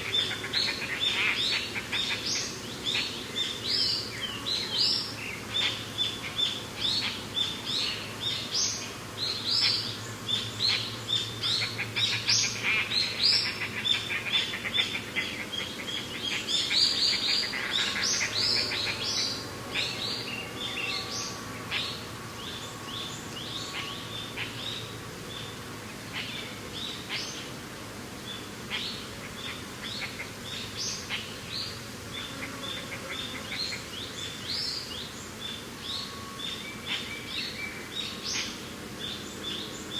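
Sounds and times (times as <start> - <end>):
small birds chirping: 0.0 - 27.6, 28.2 - 39.9
wind: 0.0 - 39.9.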